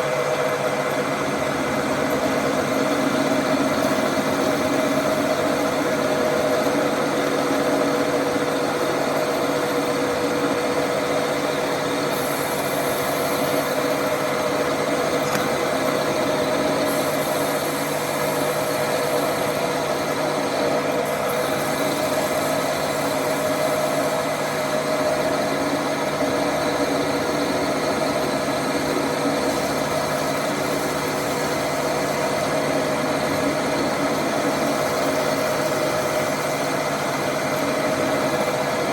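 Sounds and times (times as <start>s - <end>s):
machine motor humming: 0.0s - 38.9s.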